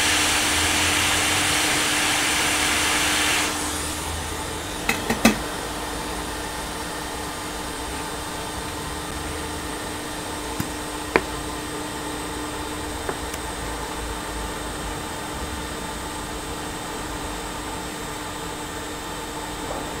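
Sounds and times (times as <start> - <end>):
hot-air station blowing hiss: 0.0 - 20.0.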